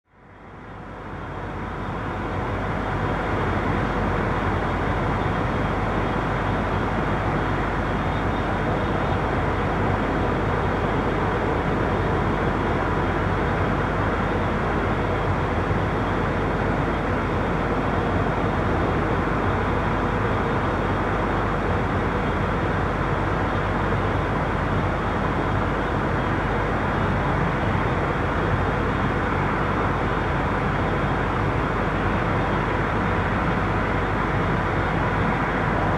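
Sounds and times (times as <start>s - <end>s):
street traffic noise: 0.1s - 35.9s.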